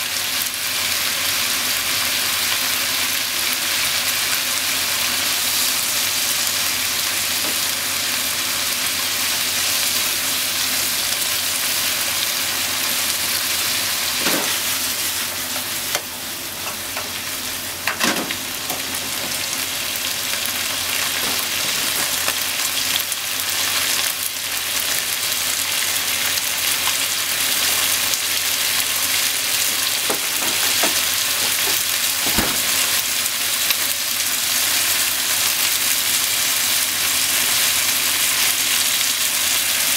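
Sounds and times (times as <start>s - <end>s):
meat and onions sizzling in pan: 0.0s - 39.9s.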